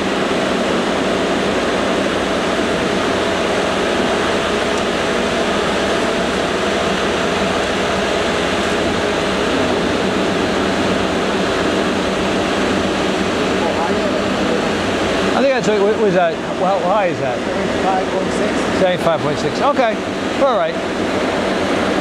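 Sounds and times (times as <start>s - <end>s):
lathe mechanical hum: 0.0s - 22.0s.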